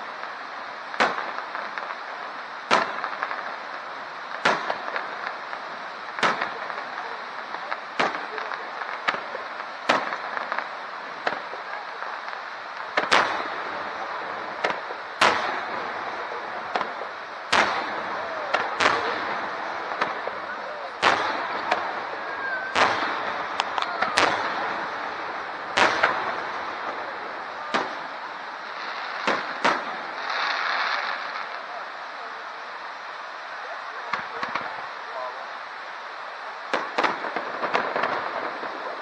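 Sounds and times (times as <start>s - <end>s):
fireworks bursting: 0.0s - 39.0s
steady background noise: 0.0s - 39.0s.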